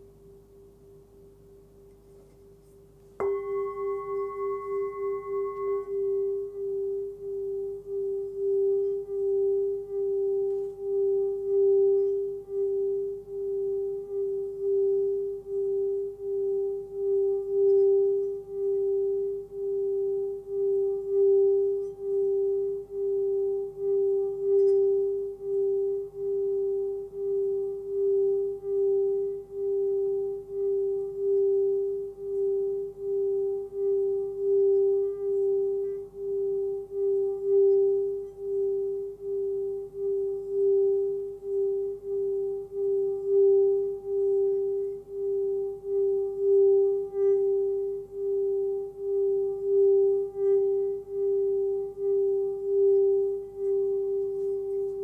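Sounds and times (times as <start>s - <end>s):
singing bowl sustained tone: 2.1s - 55.0s.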